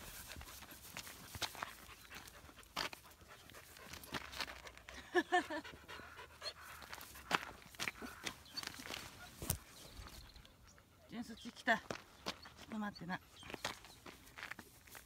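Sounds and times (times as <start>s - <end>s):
dogs panting: 0.0s - 14.4s.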